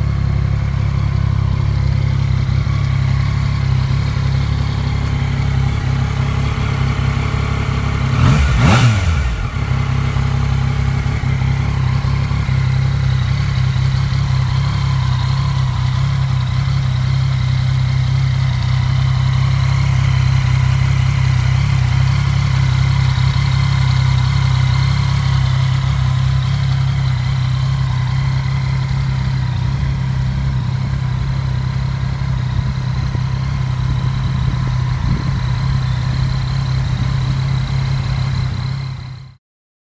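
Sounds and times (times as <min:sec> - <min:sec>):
motorcycle engine idling: 0:00.0 - 0:39.4.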